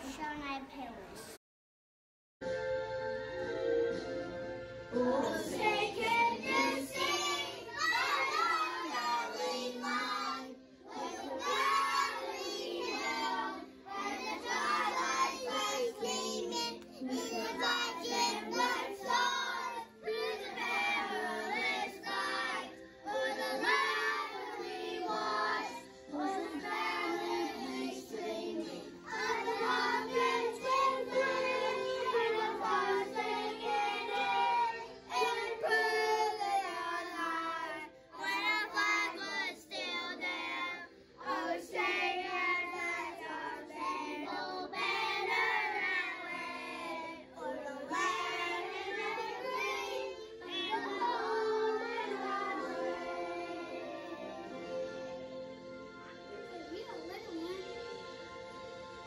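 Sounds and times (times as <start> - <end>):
children singing in unison: 4.9 - 56.0.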